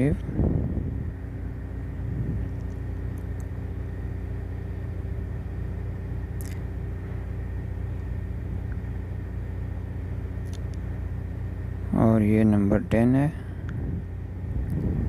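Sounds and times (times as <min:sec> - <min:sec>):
faint high whine: 0:00.0 - 0:15.0
low machine hum: 0:00.0 - 0:15.0.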